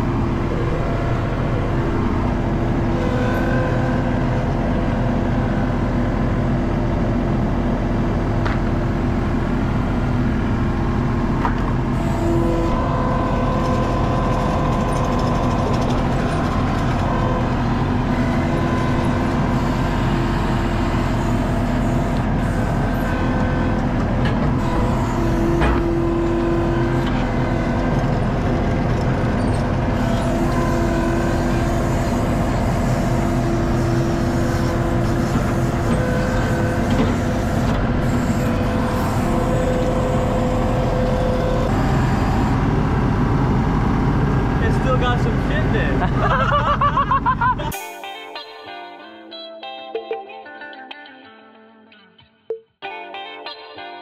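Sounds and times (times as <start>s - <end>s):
steady whining tones: 0.0s - 45.9s
diesel engine running: 0.0s - 47.8s.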